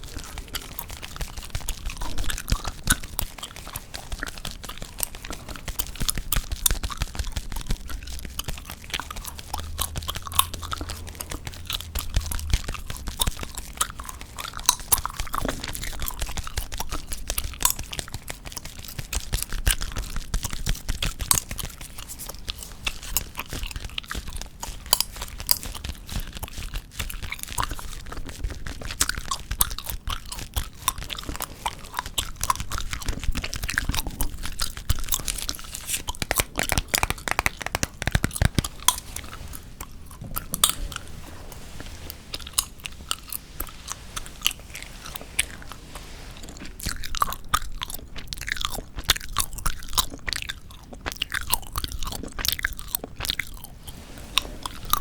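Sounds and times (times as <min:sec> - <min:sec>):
gum chewing wet clicks: 0:00.0 - 0:45.9, 0:46.5 - 0:55.0.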